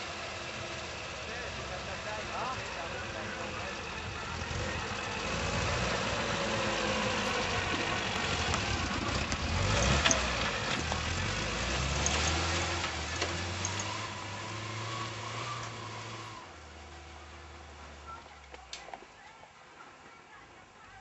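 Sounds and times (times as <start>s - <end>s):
wheels churning snow: 0.0s - 18.2s
truck engine under load: 0.0s - 18.8s.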